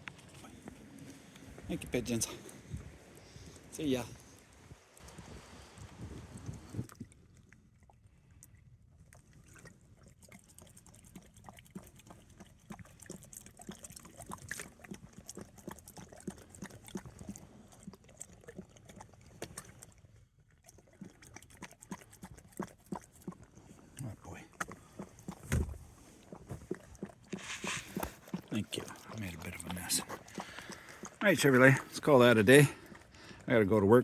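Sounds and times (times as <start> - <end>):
dog lapping water: 0.0 - 33.6.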